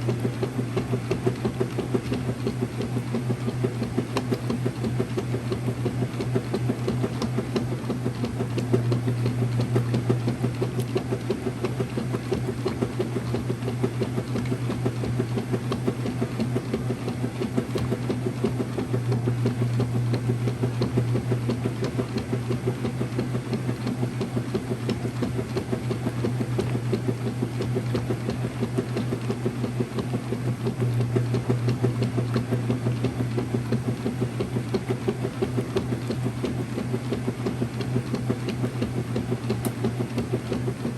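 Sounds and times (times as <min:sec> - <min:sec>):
washing machine churning: 0:00.0 - 0:40.9.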